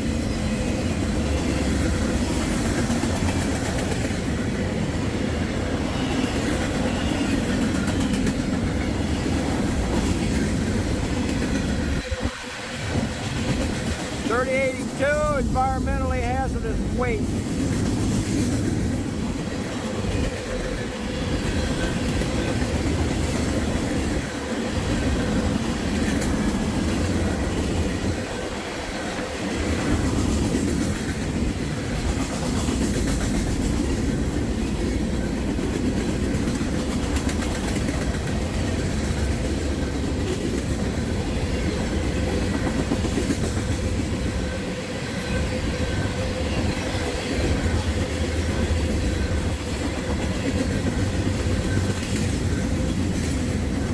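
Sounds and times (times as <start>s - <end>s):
train wheels rolling on rails: 0.0s - 53.9s.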